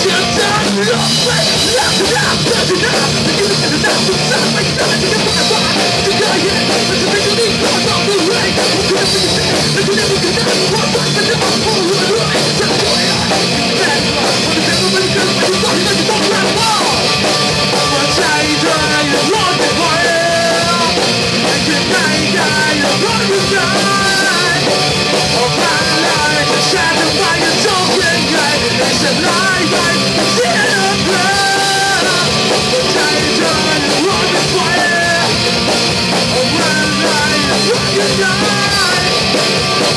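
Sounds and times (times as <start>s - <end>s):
drum kit: 0.0s - 39.9s
electric guitar: 0.0s - 39.9s
man singing: 0.0s - 39.9s.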